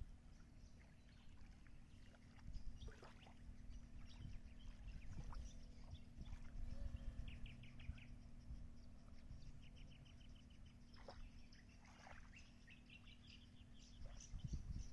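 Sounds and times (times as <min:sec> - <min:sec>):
faint birds chirping: 0:00.0 - 0:14.9
steady low hum: 0:00.0 - 0:14.9.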